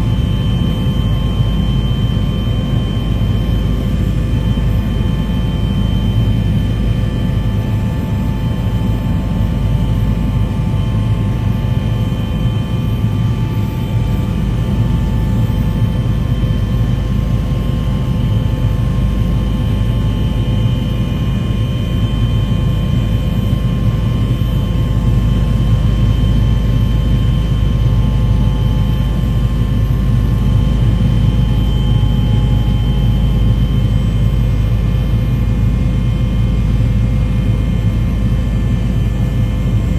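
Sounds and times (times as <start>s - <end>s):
aircraft engine rumble and whine: 0.0s - 39.9s.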